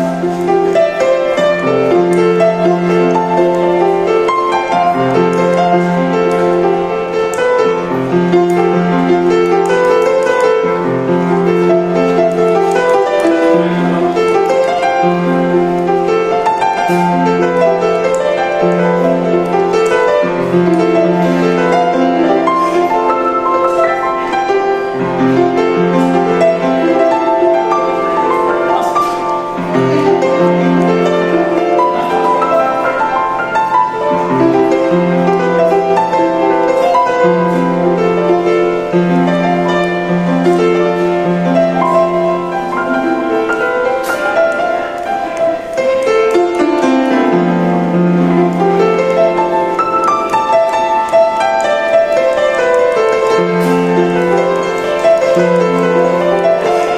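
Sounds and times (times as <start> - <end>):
solo piano: 0.0 - 56.9.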